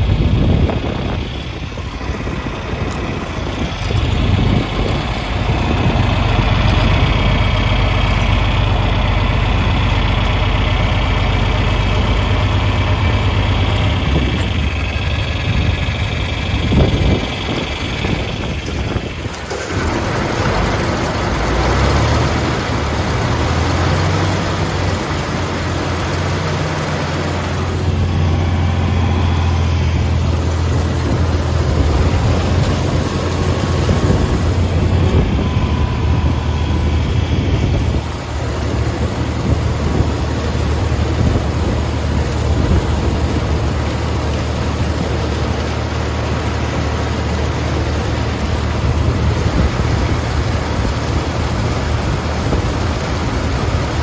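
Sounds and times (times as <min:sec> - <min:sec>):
constant rushing noise: 0:00.0 - 0:54.0
tractor engine humming: 0:00.0 - 0:54.0.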